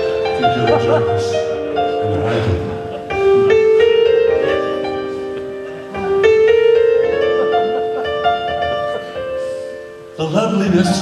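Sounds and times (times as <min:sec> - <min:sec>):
live band playing slow held chords: 0:00.0 - 0:11.0.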